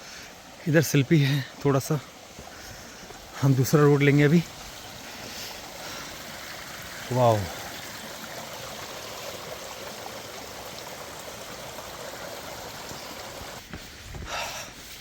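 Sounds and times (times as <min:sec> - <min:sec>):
mountain stream flowing: 0:00.0 - 0:15.0.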